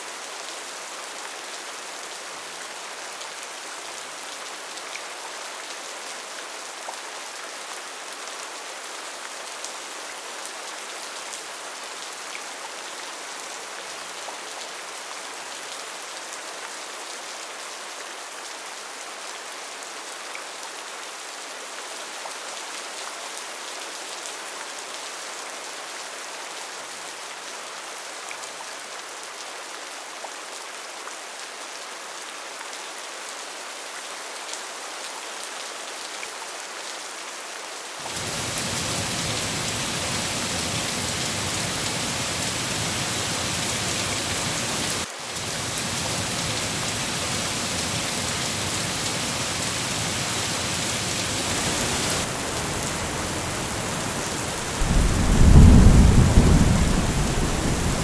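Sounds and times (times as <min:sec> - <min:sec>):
rain falling: 0:00.0 - 0:37.0, 0:37.9 - 0:58.0.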